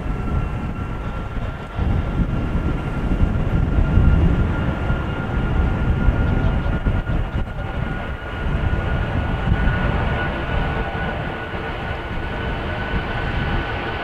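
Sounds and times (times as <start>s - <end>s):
high jet engine whine: 0.0s - 14.0s
jet engines rumbling: 0.0s - 14.0s.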